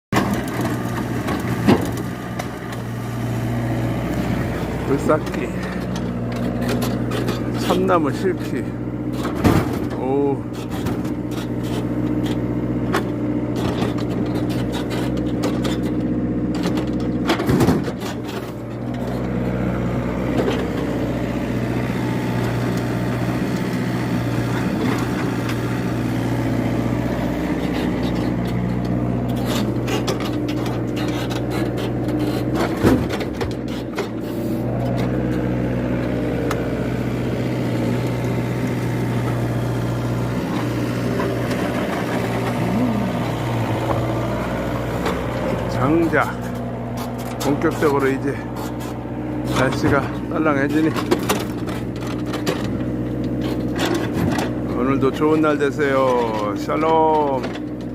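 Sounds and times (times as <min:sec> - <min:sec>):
excavator diesel engine running: 0:00.2 - 0:57.9.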